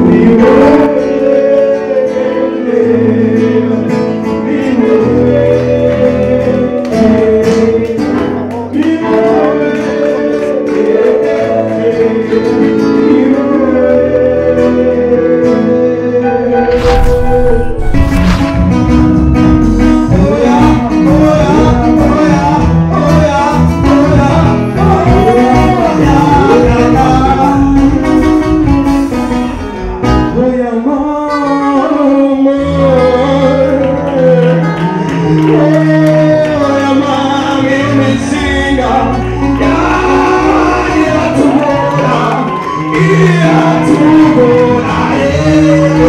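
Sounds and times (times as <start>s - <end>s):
person singing: 0.0s - 17.9s, 19.6s - 28.6s, 30.3s - 46.0s
bass: 0.0s - 46.0s
guitar: 0.0s - 46.0s.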